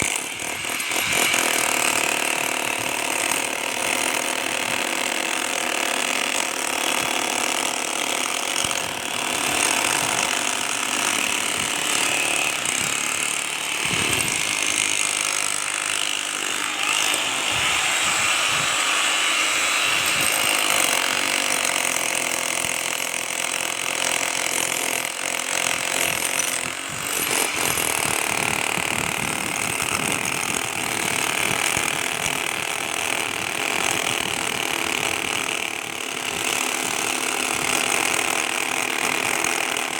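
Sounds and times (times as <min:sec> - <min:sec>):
power tool cutting concrete: 0:00.0 - 0:39.9.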